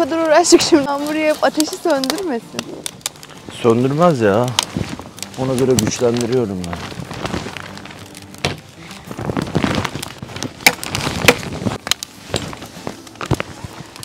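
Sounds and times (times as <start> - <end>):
sharp cracks: 0.0 - 14.0
wood fire crackling and popping: 0.0 - 14.0.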